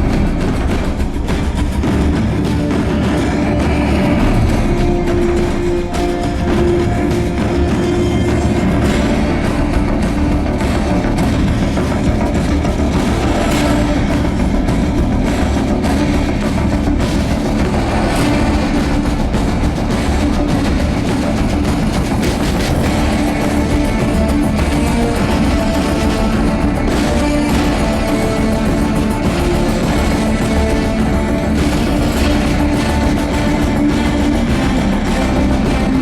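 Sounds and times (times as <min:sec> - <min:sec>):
drums playing together: 0:00.0 - 0:36.0.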